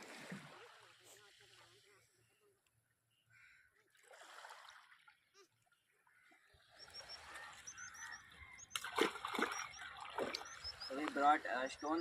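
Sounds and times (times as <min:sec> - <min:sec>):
seawater trickling and sloshing: 0:00.0 - 0:02.2, 0:03.4 - 0:12.0.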